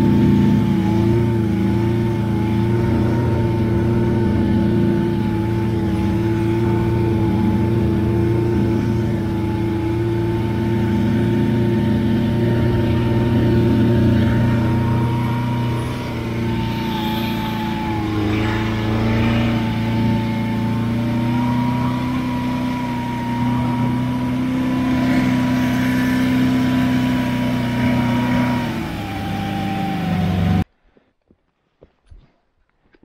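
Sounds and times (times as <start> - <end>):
snowmobile engine running: 0.0 - 30.6.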